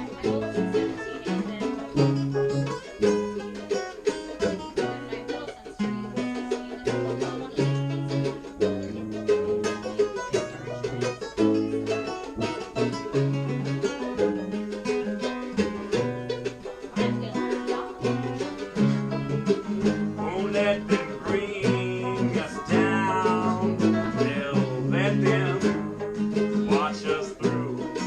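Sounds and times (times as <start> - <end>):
acoustic string band playing: 0.0 - 28.0.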